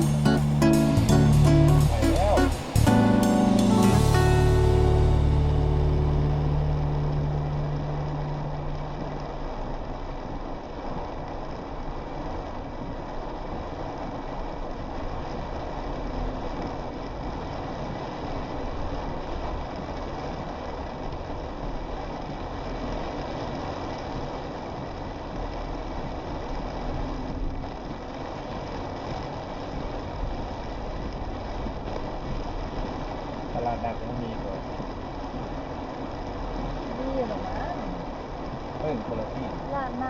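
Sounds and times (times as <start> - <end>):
car engine running low: 0.0 - 40.0
rain on car: 0.0 - 40.0
tyres hissing on wet road: 0.0 - 40.0.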